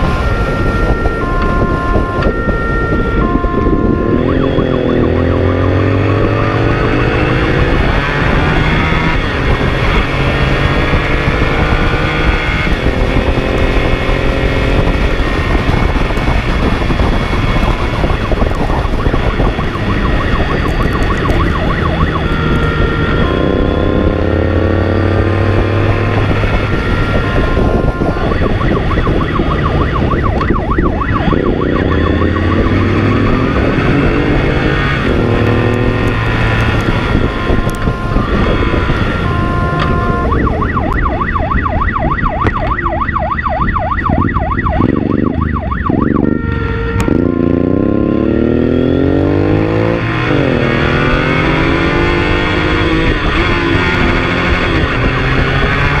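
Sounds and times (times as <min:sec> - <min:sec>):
car engine accelerating hard: 0:00.0 - 0:42.5, 0:44.1 - 0:56.0
emergency siren: 0:00.0 - 0:56.0
road noise: 0:00.0 - 0:56.0.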